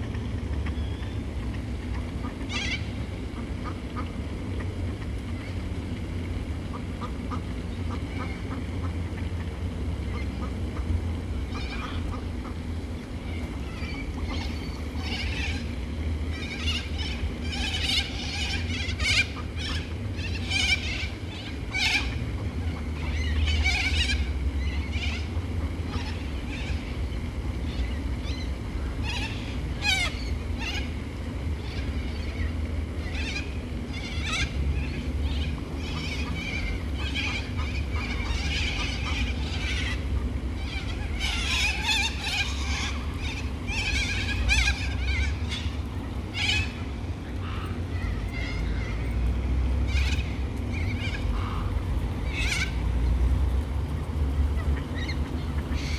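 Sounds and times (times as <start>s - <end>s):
steady low rumble: 0.0s - 55.9s
birds screeching: 2.4s - 3.0s, 11.5s - 55.9s.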